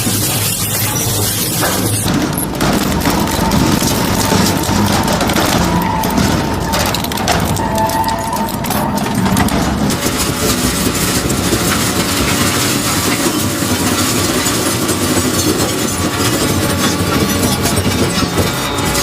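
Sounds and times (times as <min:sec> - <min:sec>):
crushing machine running: 0:00.0 - 0:19.0.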